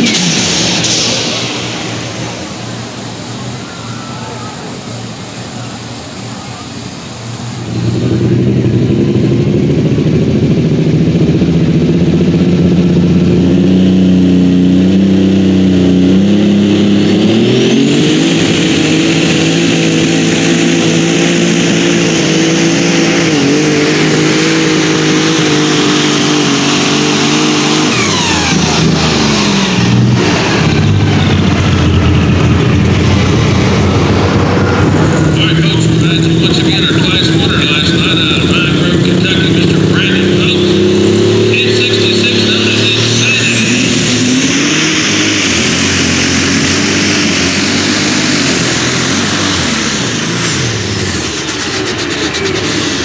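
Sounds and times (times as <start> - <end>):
high whine: 0.0 - 53.0
tractor engine running: 0.0 - 53.0.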